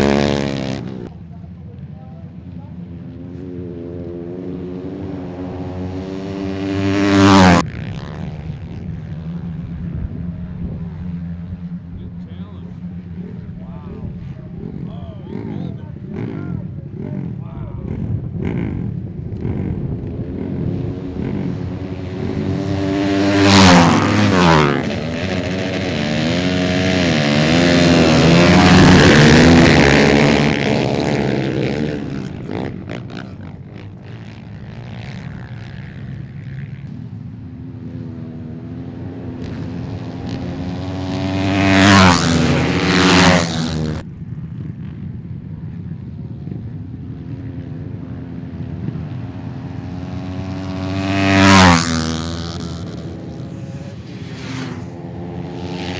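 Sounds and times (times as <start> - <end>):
motorcycle engines revving past: 0.0 - 55.9.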